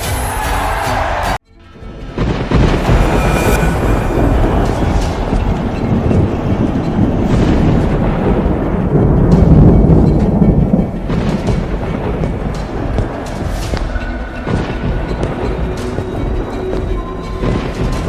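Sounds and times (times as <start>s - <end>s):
dramatic background music: 0.0s - 18.0s
deep thunder-like rumbling: 2.0s - 18.0s.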